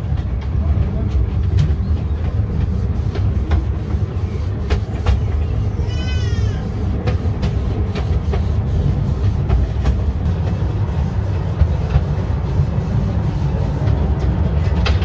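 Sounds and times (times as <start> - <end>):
railway carriage rumbling: 0.0 - 15.0
wheels clicking on track: 0.0 - 15.0.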